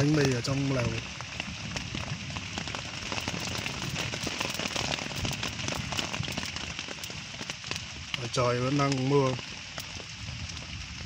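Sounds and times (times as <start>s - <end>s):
heavy rain pattering on a tent: 0.0s - 11.0s.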